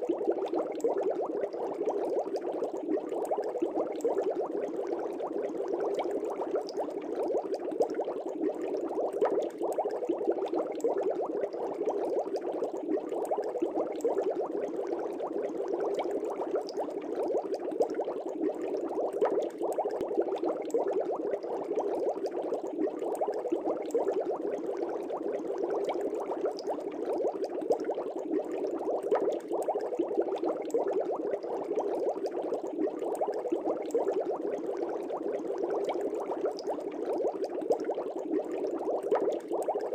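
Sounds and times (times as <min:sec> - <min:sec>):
air bubbling in fish tank: 0:00.0 - 0:39.9.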